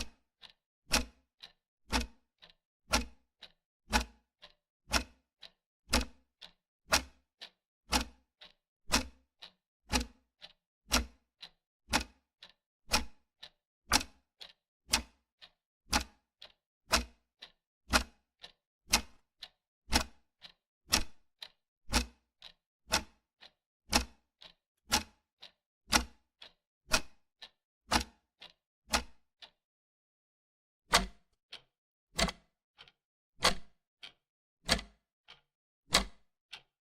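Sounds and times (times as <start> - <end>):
wall clock ticking: 0.0 - 29.6, 30.9 - 36.8.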